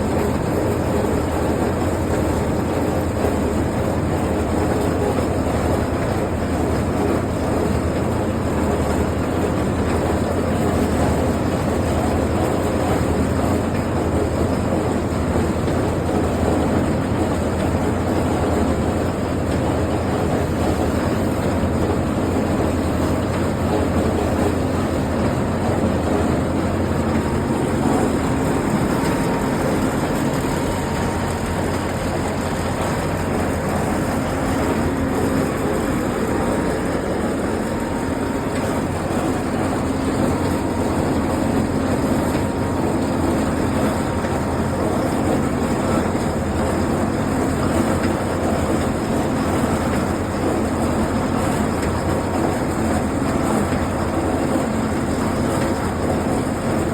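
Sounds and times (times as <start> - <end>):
road roller engine running: 0.0 - 56.9.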